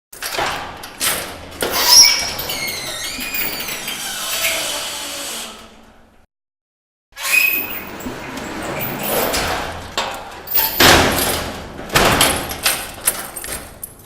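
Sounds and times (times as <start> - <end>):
garage door clunks: 0.2 - 5.0, 7.4 - 14.0
garage door rolling and squealing: 0.2 - 6.3, 7.2 - 14.0.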